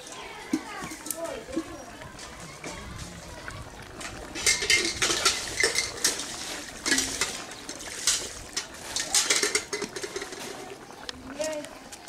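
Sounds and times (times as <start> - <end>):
curry bubbling: 0.0 - 12.0
fish splashing into broth: 1.6 - 12.0.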